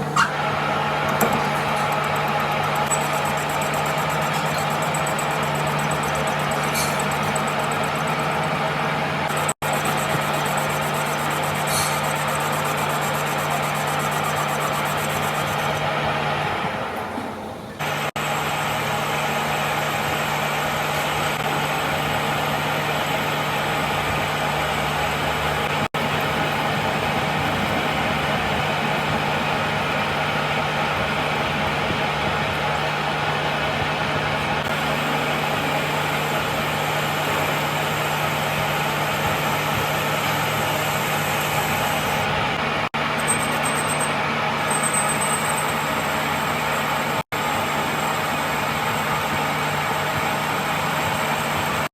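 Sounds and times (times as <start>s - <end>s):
machinery motor hum: 0.0s - 51.9s.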